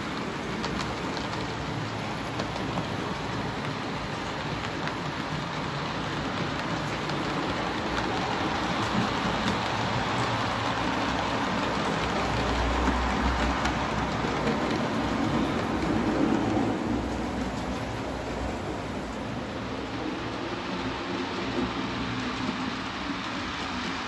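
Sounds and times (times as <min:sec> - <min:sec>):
model train wheels rattling: 0:00.0 - 0:19.4
passing train low rumble: 0:00.0 - 0:24.0.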